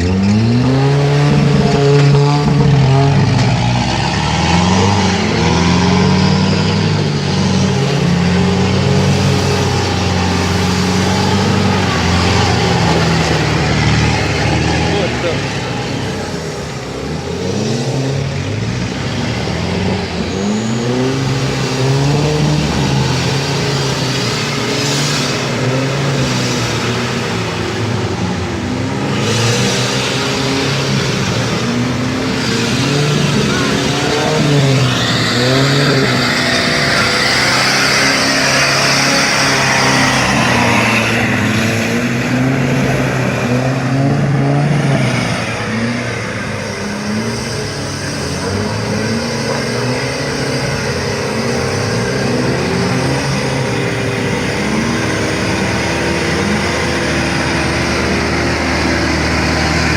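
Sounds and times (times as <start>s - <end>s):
off-road engine revving: 0.0s - 59.9s.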